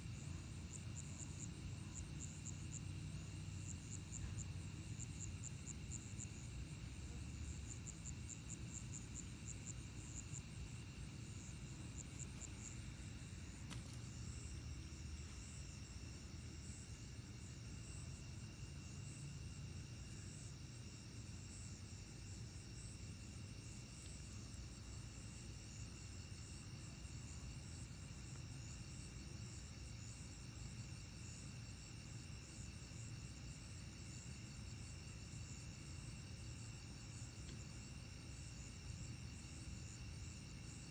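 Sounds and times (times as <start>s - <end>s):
crickets trilling: 0.1s - 40.9s.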